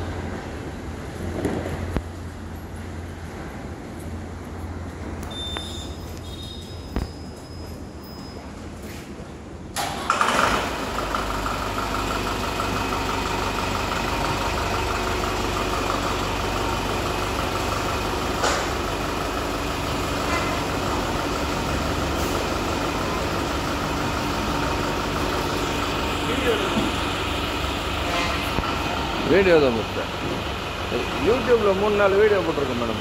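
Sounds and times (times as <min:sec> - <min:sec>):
bus engine starting and idling: 0:00.0 - 0:33.0.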